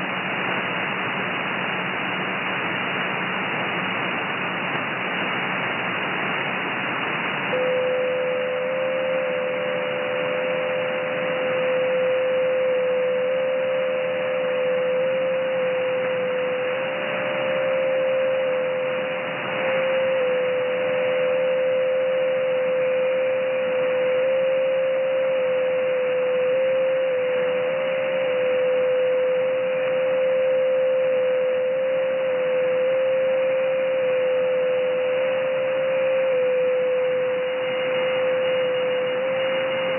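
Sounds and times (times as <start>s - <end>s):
radio band noise hiss: 0.0s - 39.9s
fainter second tone: 7.2s - 39.9s
steady whistle-like digital tone: 7.5s - 39.9s.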